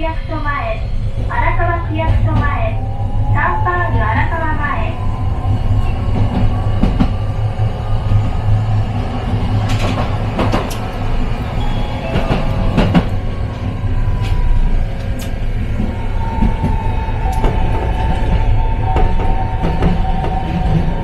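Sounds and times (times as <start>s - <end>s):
streetcar rumble: 0.0s - 21.0s.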